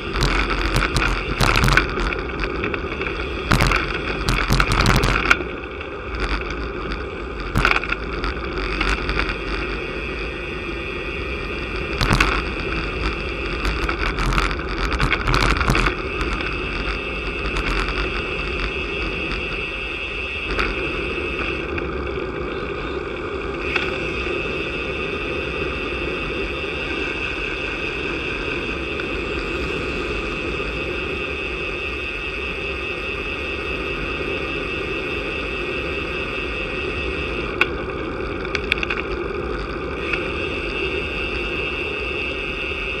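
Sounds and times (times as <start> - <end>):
bicycle tyre and road noise: 0.0 - 43.0
wind rushing over microphone: 0.0 - 43.0.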